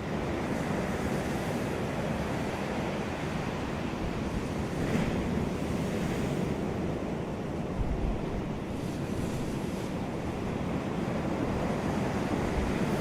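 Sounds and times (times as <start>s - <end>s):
ocean waves washing onto beach: 0.0s - 13.0s
wind rumble on microphone: 0.0s - 13.0s.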